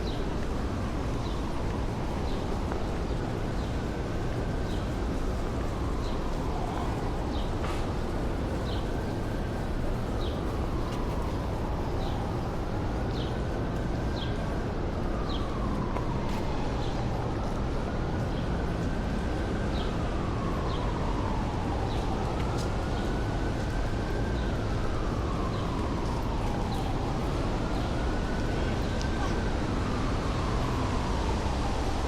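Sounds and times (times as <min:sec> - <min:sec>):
city traffic rumble: 0:00.0 - 0:32.0
distant siren wailing: 0:00.0 - 0:32.0.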